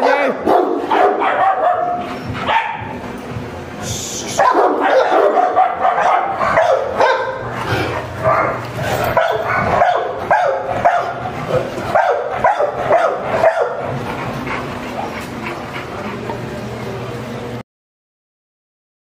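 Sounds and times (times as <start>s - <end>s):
dogs barking: 0.0s - 3.5s, 4.2s - 17.4s.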